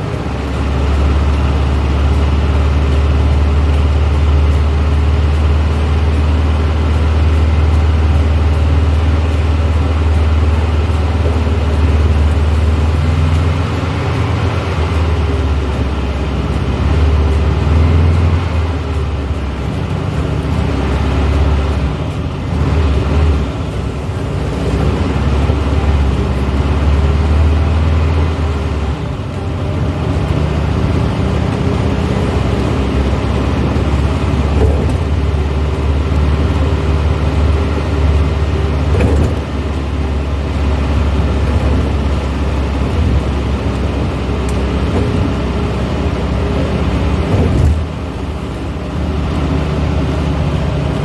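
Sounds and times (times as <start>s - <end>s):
car engine droning: 0.0s - 51.0s
road noise: 0.0s - 51.0s.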